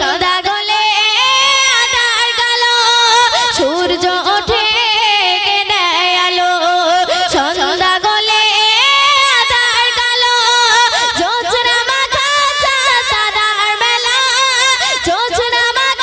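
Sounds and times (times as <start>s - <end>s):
women singing through microphones: 0.0s - 16.0s.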